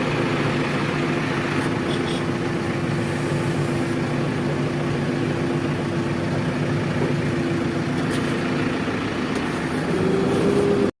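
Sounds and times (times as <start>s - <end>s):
heavy diesel engine running: 0.0s - 10.9s.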